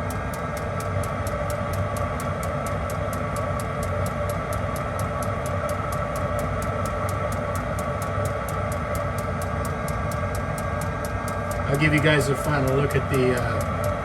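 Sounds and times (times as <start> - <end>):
fuel pump ticking: 0.0 - 14.0
heater humming: 0.0 - 14.0.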